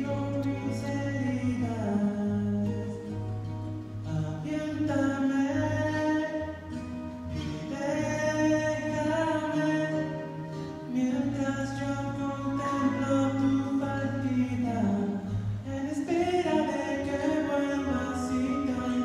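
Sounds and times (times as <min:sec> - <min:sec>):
man singing: 0:00.0 - 0:03.2, 0:04.0 - 0:19.0.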